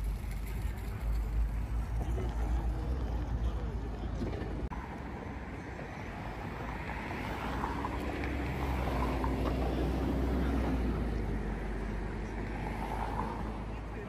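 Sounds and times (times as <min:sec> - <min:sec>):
bus driving past: 0:00.0 - 0:14.0
street traffic noise: 0:00.0 - 0:14.0.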